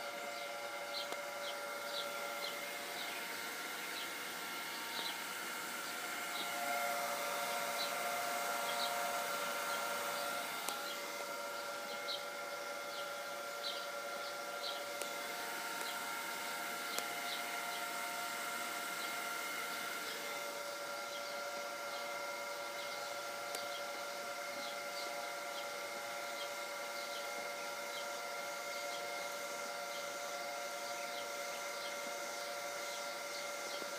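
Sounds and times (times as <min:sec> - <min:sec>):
pool filter pump humming: 0:00.0 - 0:33.9.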